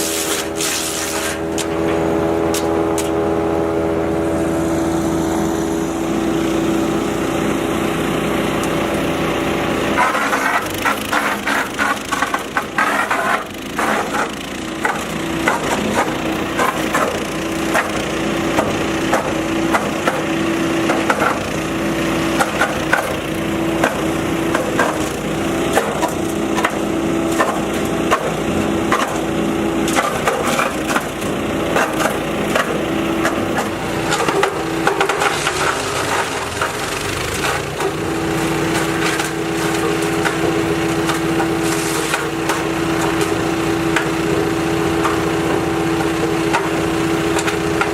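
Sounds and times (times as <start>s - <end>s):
wood chipper engine running: 0.0s - 47.9s.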